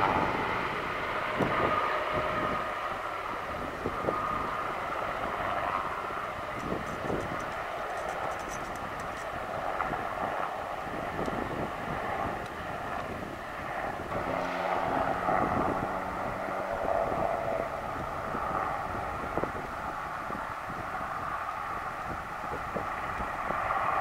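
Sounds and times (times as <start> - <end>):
helicopter rotor and turbine: 0.0 - 24.0.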